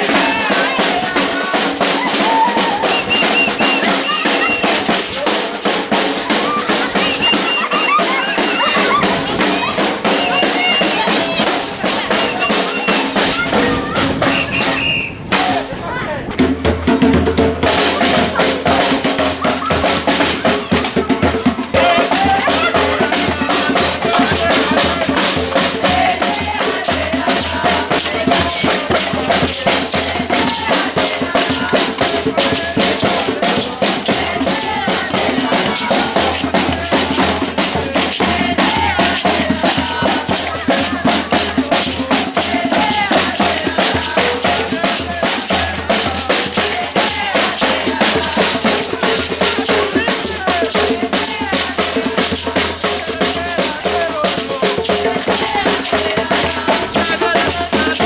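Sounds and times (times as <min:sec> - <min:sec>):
fast snare drum strokes: 0:00.0 - 0:15.7, 0:16.3 - 0:58.0
samba percussion ensemble: 0:00.0 - 0:58.0.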